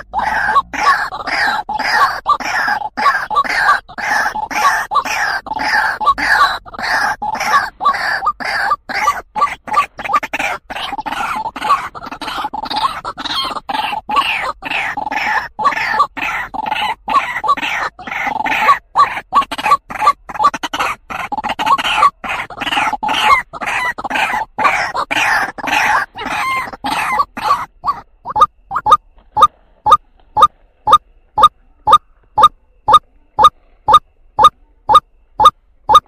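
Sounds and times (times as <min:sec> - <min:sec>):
waterhen croaking call: 0:00.0 - 0:36.0.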